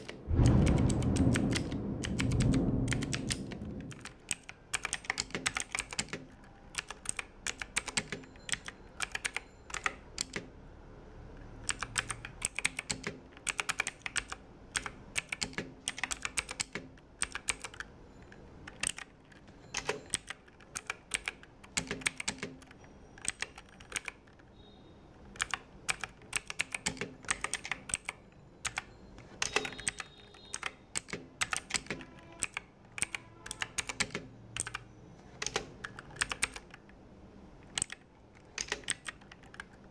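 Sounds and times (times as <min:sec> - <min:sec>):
mechanical keyboard typing: 0:00.0 - 0:10.6, 0:11.6 - 0:24.5, 0:25.1 - 0:39.9.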